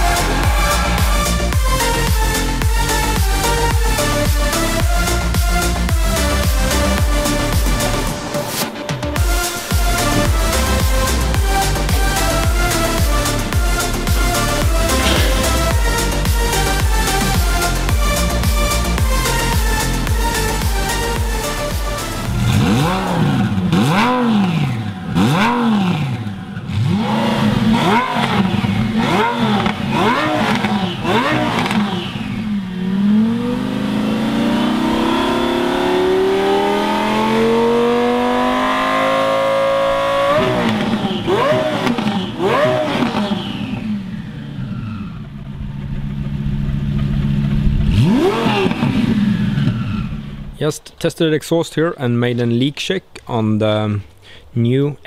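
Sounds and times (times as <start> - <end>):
car engine revving: 0.0 - 50.6.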